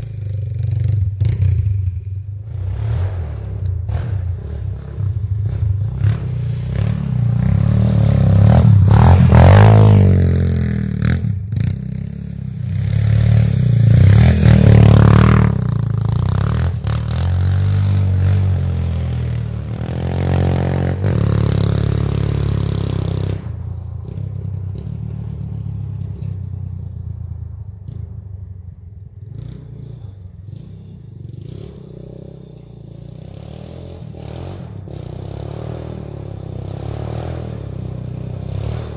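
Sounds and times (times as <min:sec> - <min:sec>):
three-wheeler engine revving: 0:00.0 - 0:28.2, 0:29.2 - 0:38.9.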